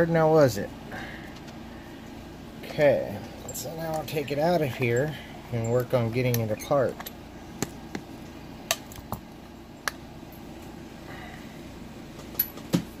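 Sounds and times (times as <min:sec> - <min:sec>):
faint steady background hum: 0:00.0 - 0:13.0.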